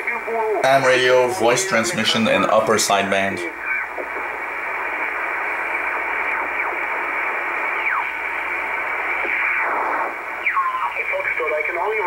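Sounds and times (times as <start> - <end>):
shortwave radio hiss: 0.0 - 12.0.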